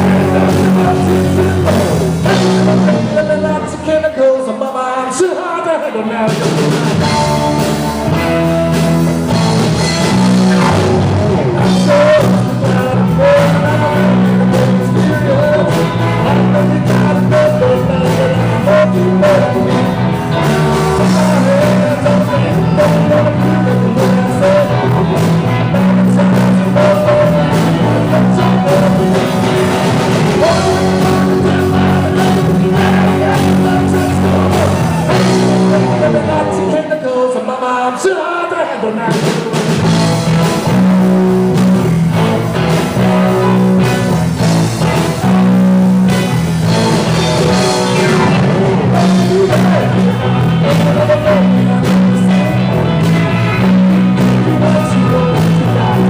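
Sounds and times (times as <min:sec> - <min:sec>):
rock and roll band playing: 0:00.0 - 0:56.0.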